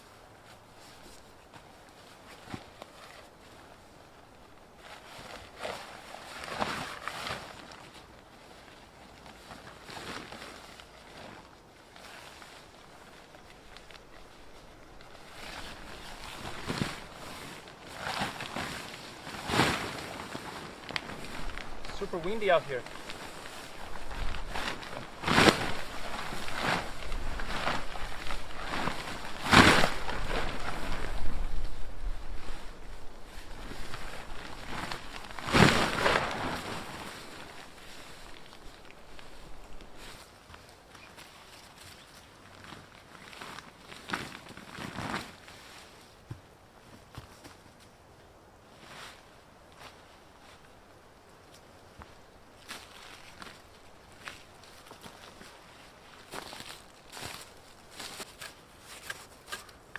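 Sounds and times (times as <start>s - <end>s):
wind gusting through woods: 0.0s - 59.9s.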